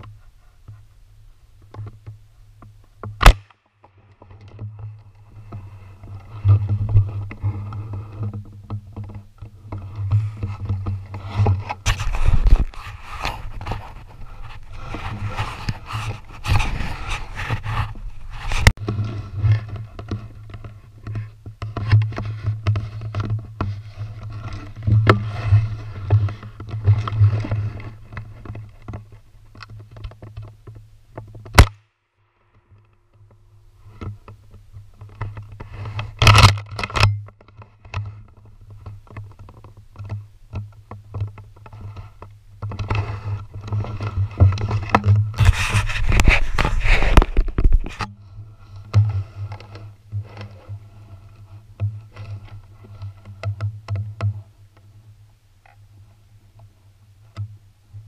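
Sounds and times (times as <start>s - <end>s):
camera handling scraping and rustling: 3.2s - 31.8s, 33.9s - 54.1s.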